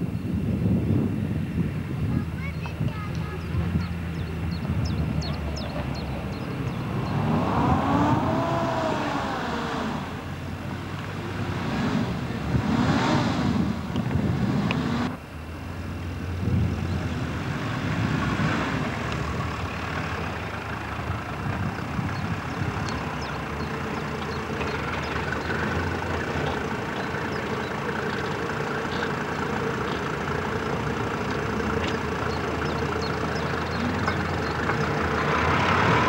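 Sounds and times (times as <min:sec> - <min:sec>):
vehicle engine running at low revs: 0:00.0 - 0:36.0.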